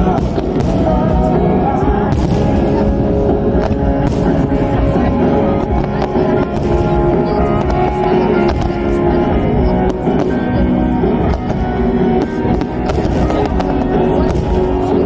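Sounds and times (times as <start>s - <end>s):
fireworks bursting and crackling: 0.0s - 15.0s
music playing: 0.0s - 15.0s.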